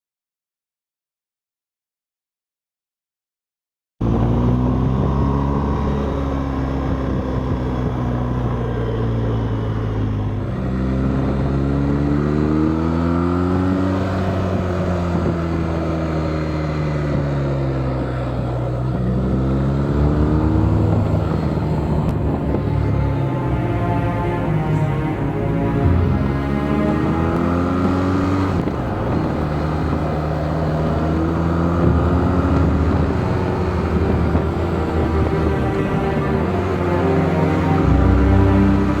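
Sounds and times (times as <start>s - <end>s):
motorcycle engine running: 4.0s - 23.7s, 24.4s - 39.0s.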